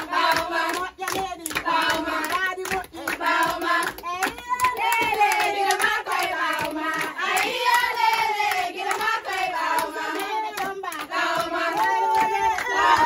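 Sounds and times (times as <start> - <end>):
hand clapping: 0.0 - 13.0
women singing a chant: 0.0 - 13.0.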